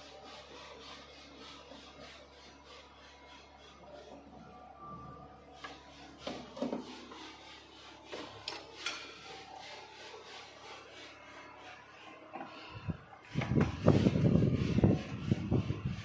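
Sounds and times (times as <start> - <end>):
cables rubbing and scraping: 0.0 - 16.0.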